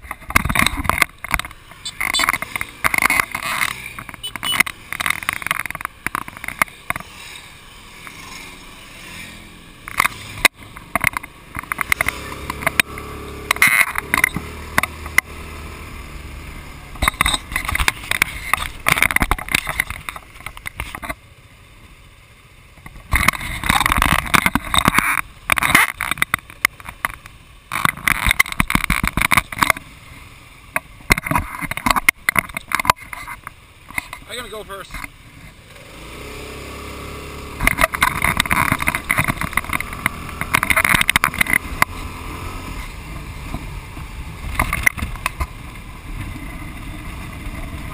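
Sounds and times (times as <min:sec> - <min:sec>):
scooter engine running: 0:00.0 - 0:47.9.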